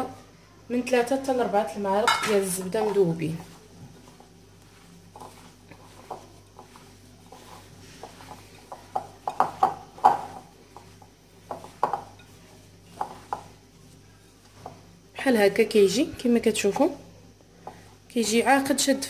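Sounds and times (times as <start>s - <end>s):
hand kneading crumbs: 1.6s - 18.8s.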